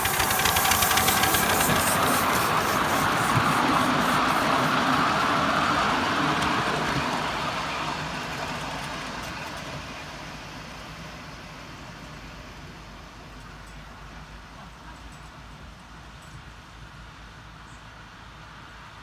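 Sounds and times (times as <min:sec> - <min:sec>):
miniature train rumbling on track: 0:00.0 - 0:18.9.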